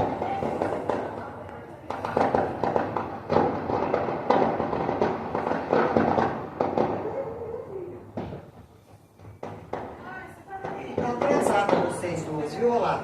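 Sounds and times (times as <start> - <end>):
fireworks crackling bangs: 0.0 - 13.0.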